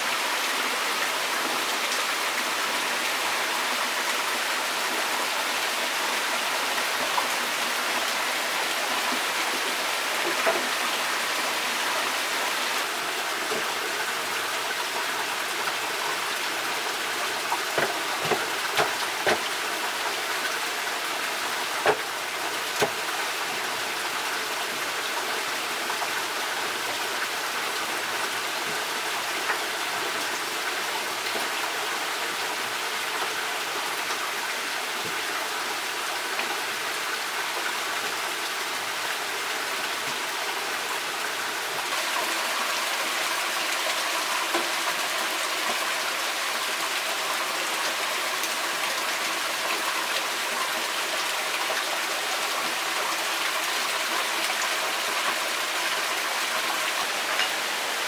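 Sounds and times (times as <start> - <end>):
forest stream running water: 0.0 - 58.0.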